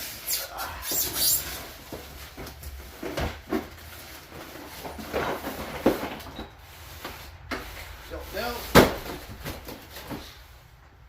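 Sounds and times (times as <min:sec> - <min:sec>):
knocks and scrapes of handled parts: 0:00.8 - 0:10.4.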